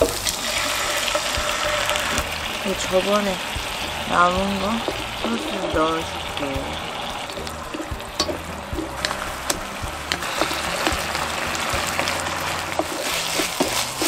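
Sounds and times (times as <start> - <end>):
sausages sizzling in frying pan: 0.0 - 14.0
spatula scraping pan: 0.0 - 14.0.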